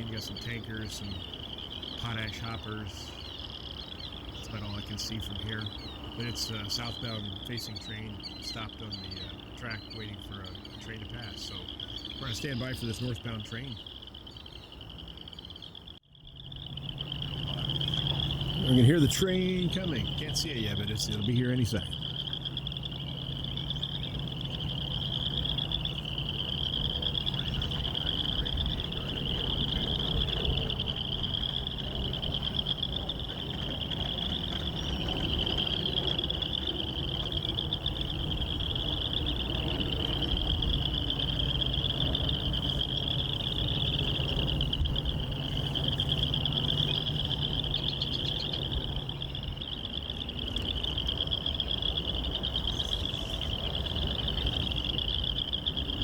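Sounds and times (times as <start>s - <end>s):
animal chorus pulsing trill: 0.0s - 56.0s
distant diesel locomotives rumbling: 0.0s - 56.0s.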